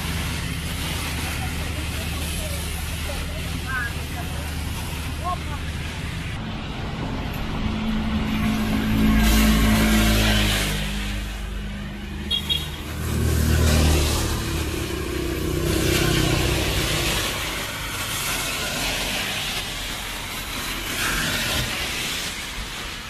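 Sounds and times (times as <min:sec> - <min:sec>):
low engine rumble: 0:00.0 - 0:20.6
tyres hissing on wet road: 0:00.0 - 0:23.0.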